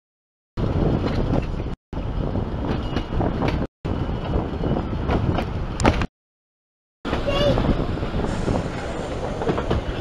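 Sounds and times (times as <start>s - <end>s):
wind buffeting microphone: 0.6s - 6.1s, 7.1s - 10.0s.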